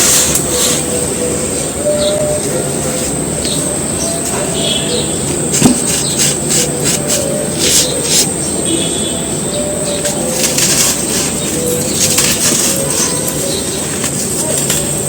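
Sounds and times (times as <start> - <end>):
dry cones crunching: 0.0 - 15.0
faint bird calls: 0.0 - 15.0.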